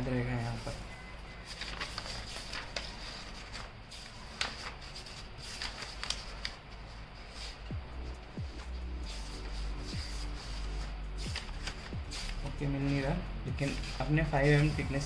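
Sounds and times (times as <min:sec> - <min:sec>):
paper pages rustling: 0:00.3 - 0:07.7, 0:08.5 - 0:15.0
pages flapping over: 0:01.4 - 0:07.6, 0:08.5 - 0:14.8.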